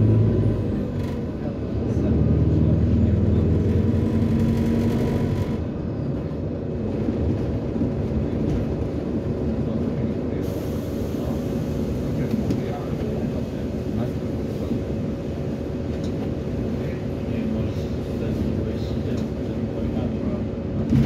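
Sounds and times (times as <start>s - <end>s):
bus diesel engine running: 0.0s - 21.0s
road and body rumble: 0.0s - 21.0s.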